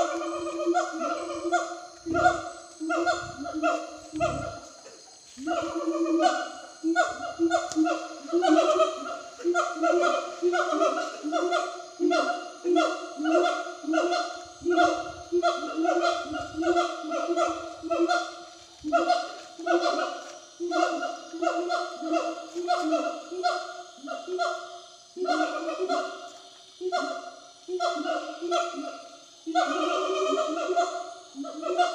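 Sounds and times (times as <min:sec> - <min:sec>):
gibbons hooting: 0:00.0 - 0:31.9.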